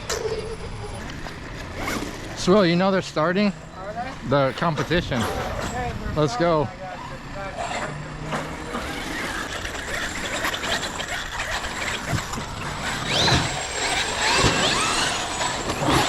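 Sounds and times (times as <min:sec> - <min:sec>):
electric motors whining: 0:00.0 - 0:16.0
gear and drivetrain rattle: 0:00.0 - 0:16.0.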